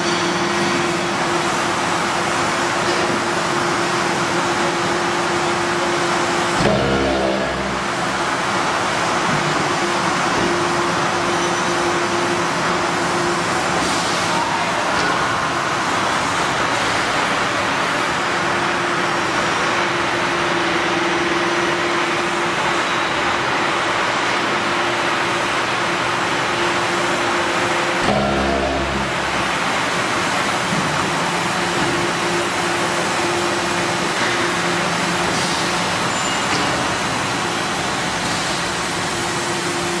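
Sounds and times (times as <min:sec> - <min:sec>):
hydraulic pump hum and hiss: 0:00.0 - 0:40.0.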